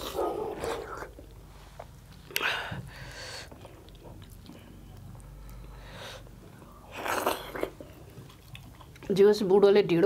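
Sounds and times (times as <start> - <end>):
people eating with their hands: 0.0 - 9.7.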